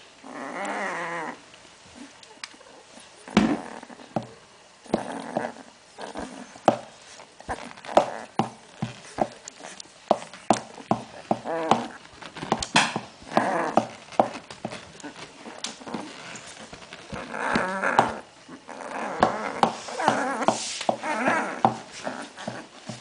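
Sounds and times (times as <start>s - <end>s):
puppies squeaking and whining: 0.2s - 1.4s, 2.0s - 4.1s, 4.9s - 23.0s.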